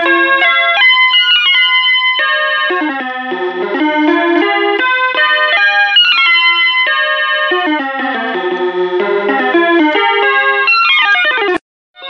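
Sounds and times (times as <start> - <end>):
instrumental background music: 0.0 - 11.6.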